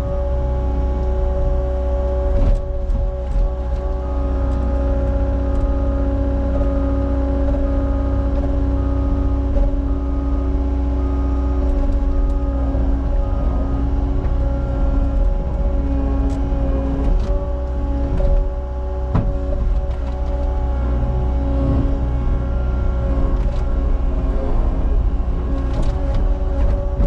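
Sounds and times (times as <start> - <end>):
constant engine whine: 0.0 - 27.0
diesel engine rumbling: 0.0 - 27.0.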